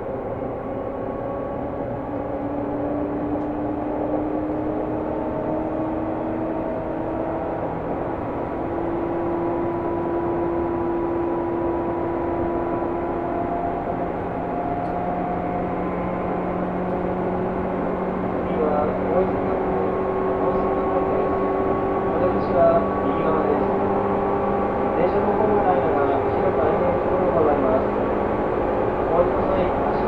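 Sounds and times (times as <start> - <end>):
train motor and gear hum: 0.0 - 30.0.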